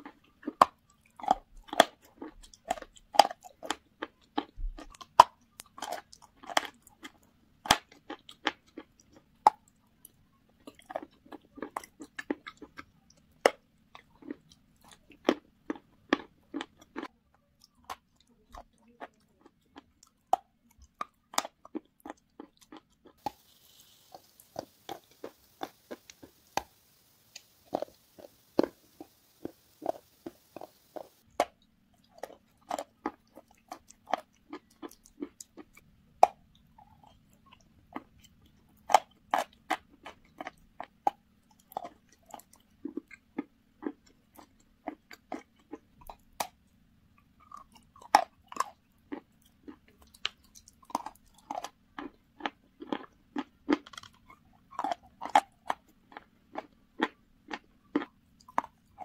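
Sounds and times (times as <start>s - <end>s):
crunching and chewing chalk: 0.0s - 59.0s.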